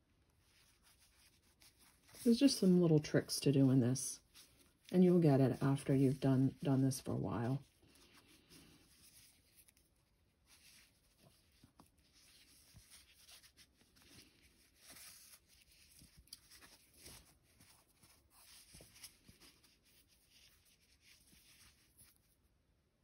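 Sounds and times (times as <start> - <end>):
yarn rustling and scratching: 0.0 - 22.4.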